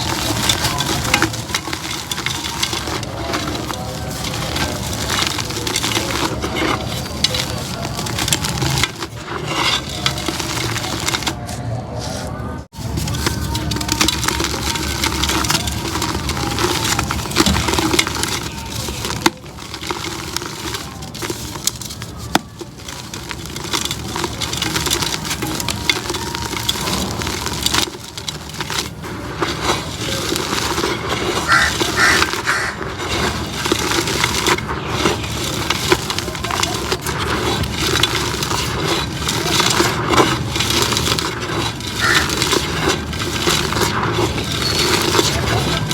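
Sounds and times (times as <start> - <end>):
concrete crumbling by hand: 0.0 - 11.5, 12.7 - 45.9.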